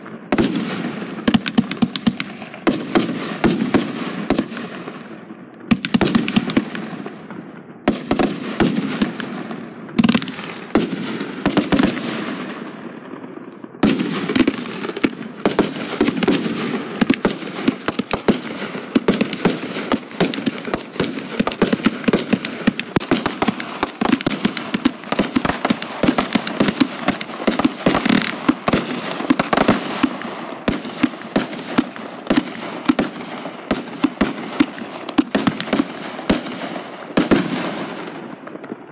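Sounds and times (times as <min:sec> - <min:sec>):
fireworks launching and bursting: 0:00.0 - 0:38.9
rapid firework crackle: 0:00.3 - 0:05.1, 0:05.7 - 0:38.9.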